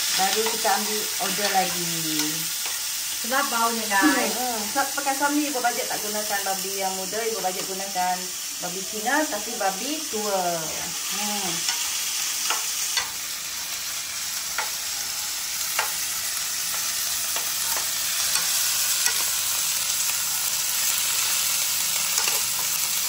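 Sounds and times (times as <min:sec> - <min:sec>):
meat sizzling in a wok: 0:00.0 - 0:23.0.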